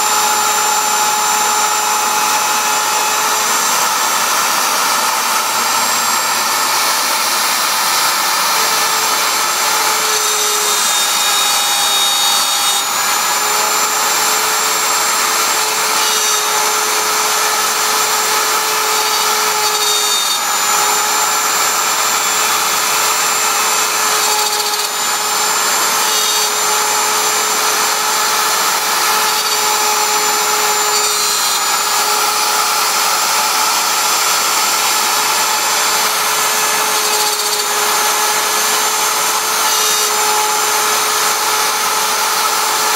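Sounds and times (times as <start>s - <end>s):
bit cutting wood: 0.0s - 42.9s
router spindle whine: 0.0s - 42.9s.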